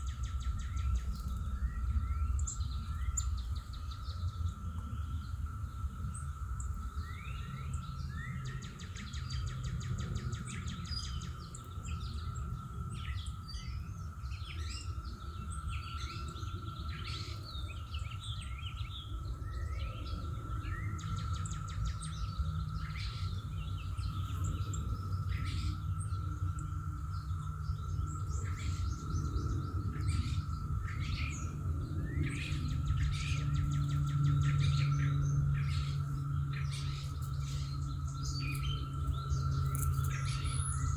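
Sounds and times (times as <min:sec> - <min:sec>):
birds chirping and singing: 0:00.0 - 0:40.9
low background rumble: 0:00.0 - 0:40.9.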